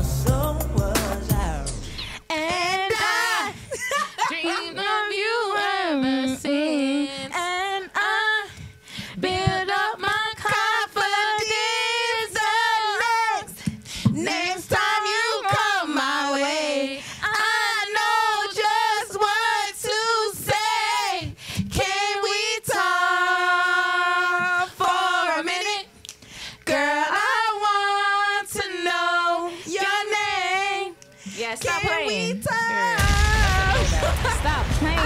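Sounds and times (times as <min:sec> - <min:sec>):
women singing unaccompanied: 0:02.3 - 0:25.9, 0:26.6 - 0:35.0.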